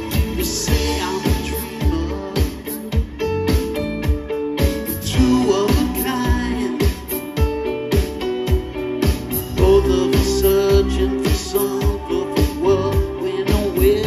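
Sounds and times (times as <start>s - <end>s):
person singing: 0.0s - 3.8s, 4.9s - 8.2s, 9.3s - 14.0s
drums keeping a steady beat: 0.0s - 14.0s
electric bass: 0.0s - 14.0s
keyboards: 0.0s - 14.0s.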